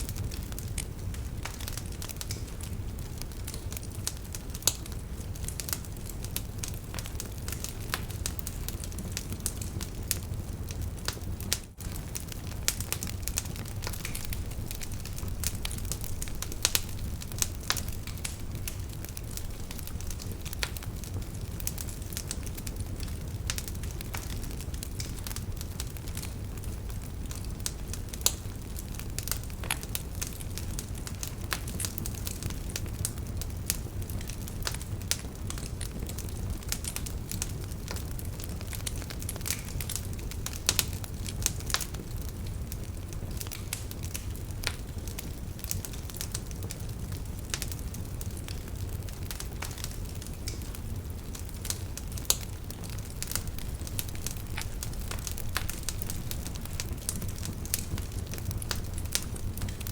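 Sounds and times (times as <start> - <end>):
fire pops and snaps: 0.0 - 59.9
low rumble of flames: 0.0 - 59.9
wood fire crackling: 0.0 - 59.9.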